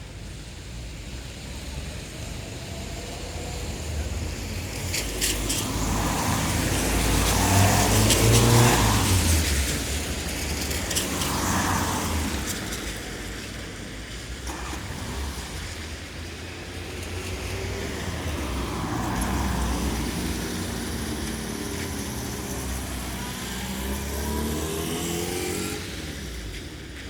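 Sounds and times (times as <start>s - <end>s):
car engine rumble: 0.0s - 27.0s
tyres hissing on wet road: 0.0s - 27.0s.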